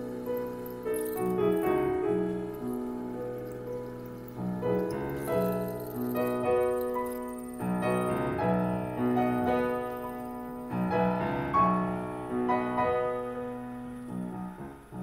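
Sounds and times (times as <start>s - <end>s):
solo piano: 0.0s - 15.0s.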